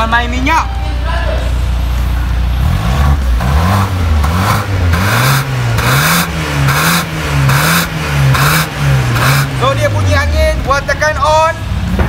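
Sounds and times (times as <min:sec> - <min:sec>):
car engine revving: 0:01.5 - 0:12.0.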